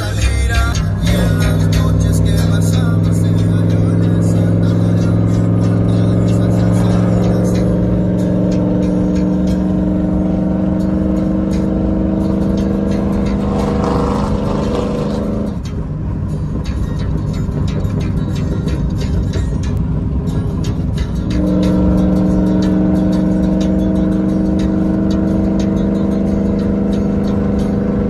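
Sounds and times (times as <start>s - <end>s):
road and wind noise: 0.0s - 28.0s
truck engine droning: 0.0s - 28.0s.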